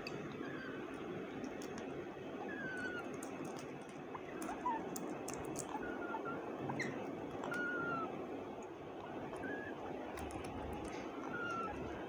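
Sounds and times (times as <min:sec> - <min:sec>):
steady low hum: 0:00.0 - 0:12.0
bird chick chirping: 0:00.2 - 0:08.2, 0:08.9 - 0:12.0.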